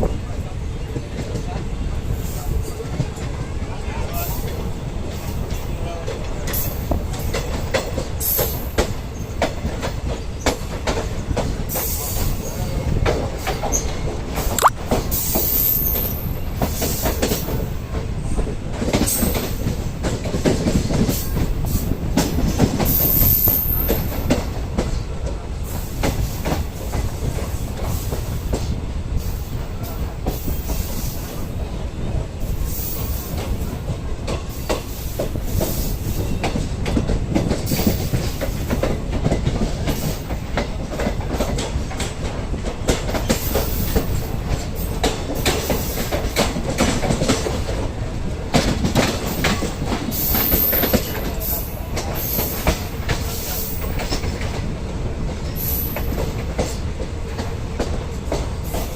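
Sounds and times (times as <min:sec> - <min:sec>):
train rumbling on track: 0:00.0 - 0:58.9.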